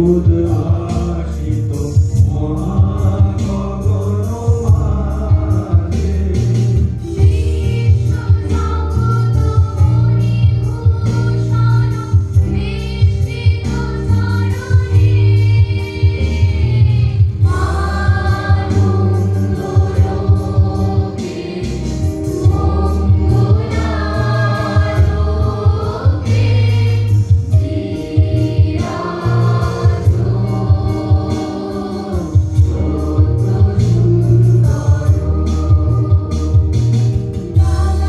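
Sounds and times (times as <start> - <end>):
steady low beat: 0.0 - 8.1, 14.8 - 38.0
mixed chorus singing folk song: 0.0 - 38.0.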